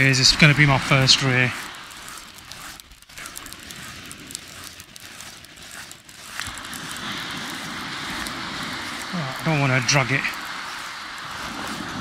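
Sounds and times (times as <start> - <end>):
fishing reel crackling rattle: 0.0 - 12.0
wind buffeting microphone: 0.0 - 12.0.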